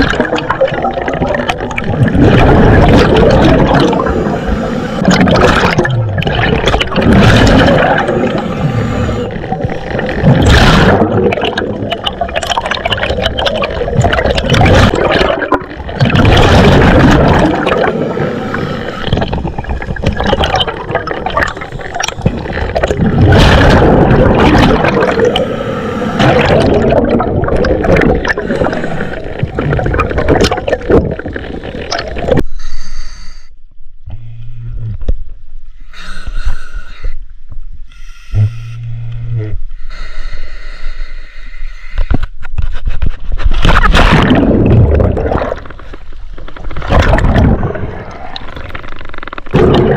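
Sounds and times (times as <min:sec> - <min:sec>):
underwater water gurgling: 0:00.0 - 0:32.7, 0:41.9 - 0:49.9.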